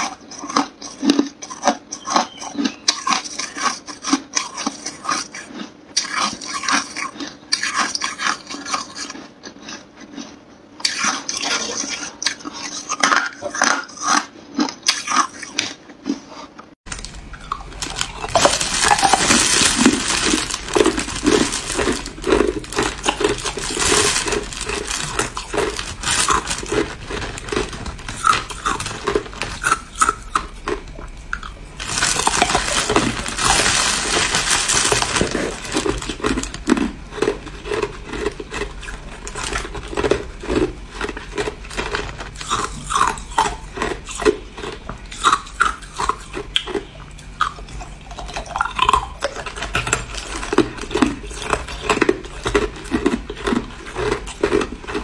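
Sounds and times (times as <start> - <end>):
ice crunching between teeth: 0.0 - 55.0.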